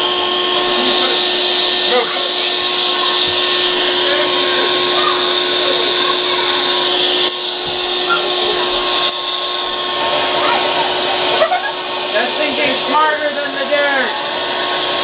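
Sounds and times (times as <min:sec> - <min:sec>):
shop vacuum humming: 0:00.0 - 0:15.0.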